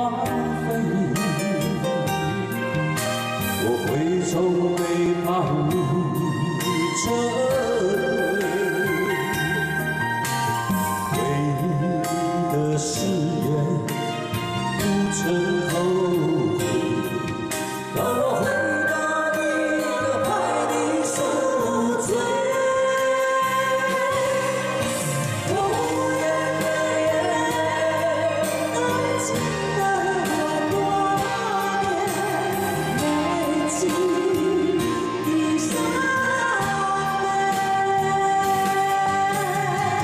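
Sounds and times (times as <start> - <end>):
instrumental backing track: 0.0 - 40.0
person singing ballad: 0.0 - 40.0.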